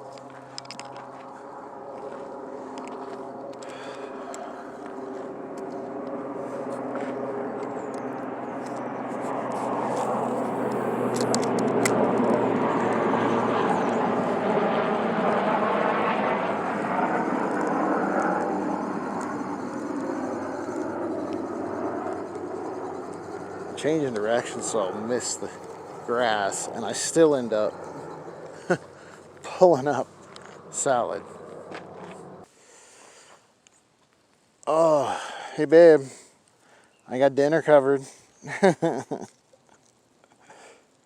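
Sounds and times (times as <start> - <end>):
aircraft engine drone: 0.0 - 33.5, 34.7 - 39.3, 40.2 - 41.0.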